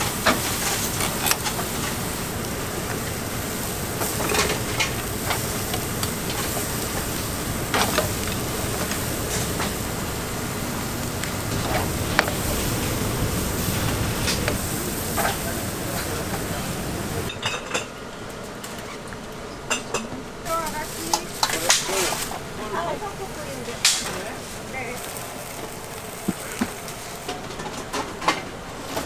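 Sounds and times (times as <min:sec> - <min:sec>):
ribs cooking hiss and rumble: 0:00.0 - 0:29.0.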